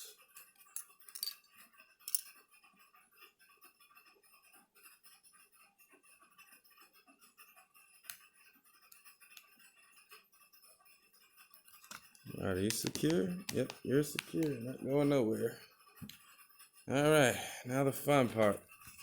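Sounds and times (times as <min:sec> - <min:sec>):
light clicks and scrapes of tools: 0:00.0 - 0:05.0, 0:05.6 - 0:19.0.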